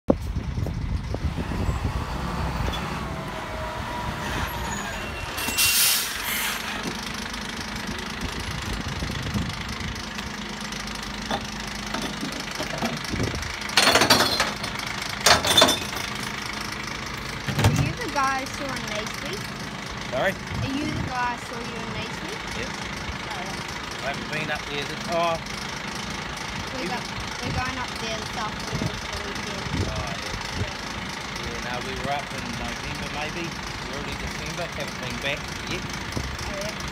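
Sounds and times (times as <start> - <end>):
diesel truck engine idling: 0.1 - 36.9.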